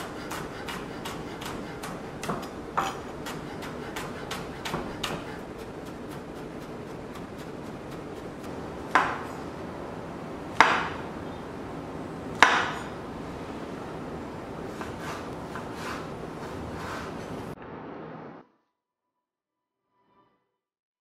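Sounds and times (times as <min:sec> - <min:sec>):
steady background hiss: 0:00.0 - 0:18.4.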